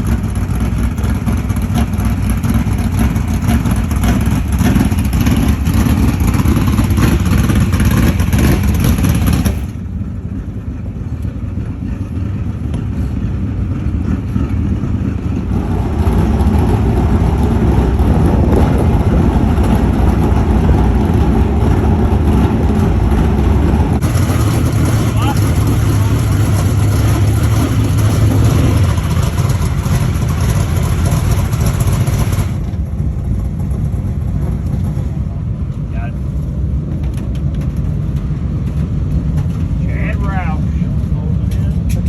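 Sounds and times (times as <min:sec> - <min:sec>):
race car engines running: 0:00.0 - 0:42.0.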